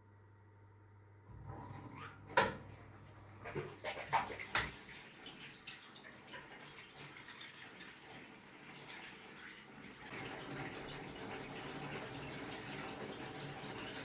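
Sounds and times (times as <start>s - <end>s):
water splashing in washing machine: 1.3s - 14.0s.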